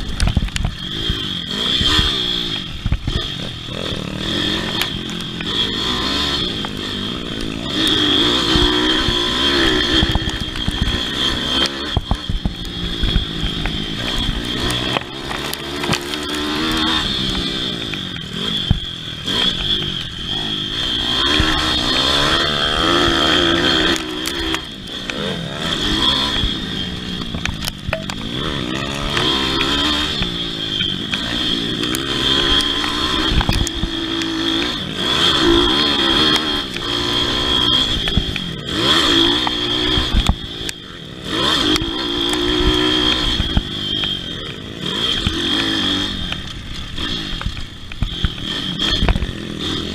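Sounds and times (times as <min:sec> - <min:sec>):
pit bike engine racing: 0:00.0 - 0:49.9.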